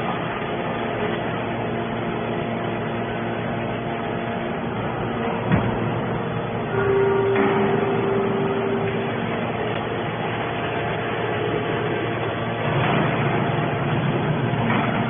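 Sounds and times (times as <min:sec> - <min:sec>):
loud steady tone: 0:00.0 - 0:15.0
machine hum: 0:00.0 - 0:15.0.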